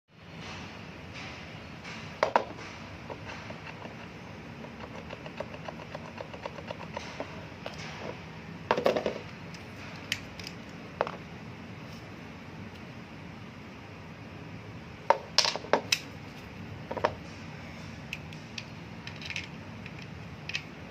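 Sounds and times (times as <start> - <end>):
steady low hum: 0.1 - 20.9.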